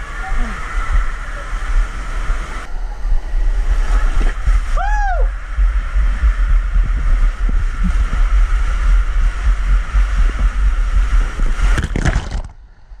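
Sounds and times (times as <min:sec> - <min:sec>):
rushing water: 0:00.0 - 0:12.1
buffeting rumble on microphone: 0:00.0 - 0:13.0.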